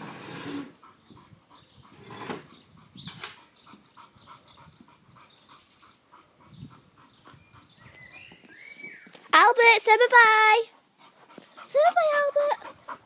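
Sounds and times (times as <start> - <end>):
dog panting: 0.7 - 8.5, 10.0 - 13.0.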